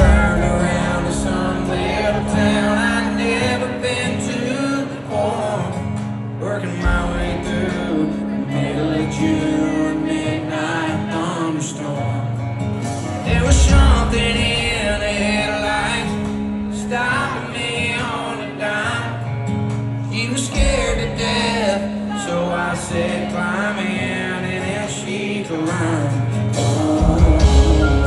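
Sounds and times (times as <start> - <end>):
country band playing live: 0.0 - 28.0
man singing: 0.0 - 28.0.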